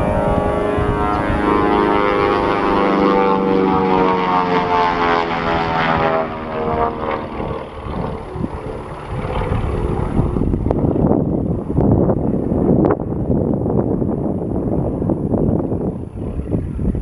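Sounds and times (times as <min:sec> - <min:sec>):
propeller plane engines droning: 0:00.0 - 0:17.0
wind rumble on microphone: 0:00.0 - 0:17.0.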